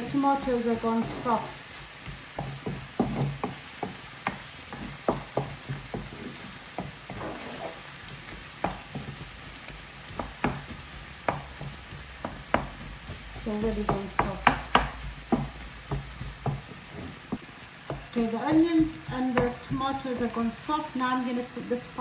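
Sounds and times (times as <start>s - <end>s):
spatula scraping and knocking pan: 0.0s - 21.0s
vegetables sizzling in oil: 0.0s - 22.0s.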